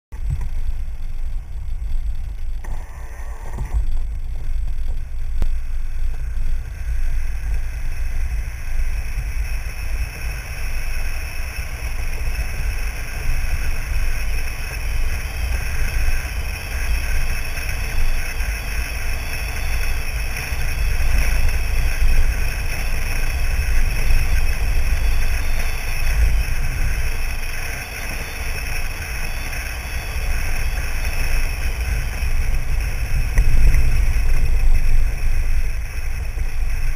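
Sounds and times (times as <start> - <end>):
truck driving on dirt road: 0.1 - 36.9
wind buffeting microphone: 3.6 - 36.9.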